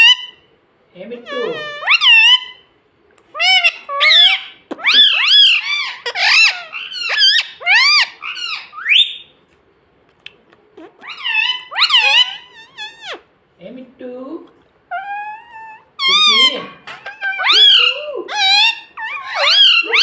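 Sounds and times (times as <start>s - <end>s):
parrot chattering: 0.0s - 0.5s, 1.1s - 2.7s, 3.3s - 9.3s, 10.3s - 13.3s, 14.9s - 20.0s.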